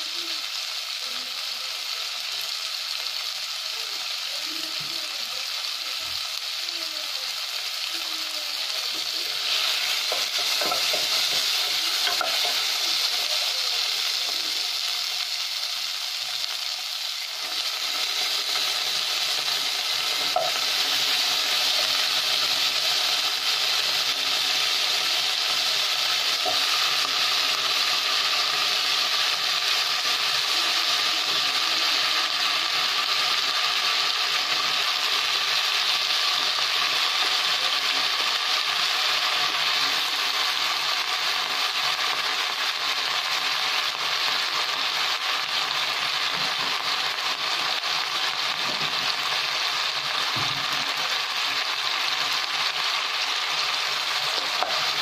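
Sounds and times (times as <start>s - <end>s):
vegetables sizzling in a pot: 0.0s - 55.0s.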